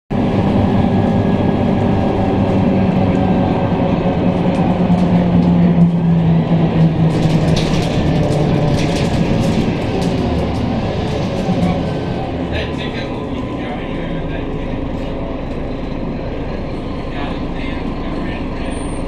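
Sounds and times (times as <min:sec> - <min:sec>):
bus diesel engine drone: 0:00.1 - 0:19.0.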